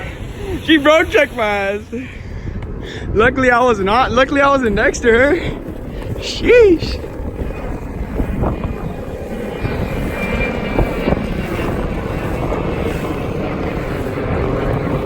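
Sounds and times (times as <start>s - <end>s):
skateboard wheels rolling on pavement: 0.0s - 15.0s.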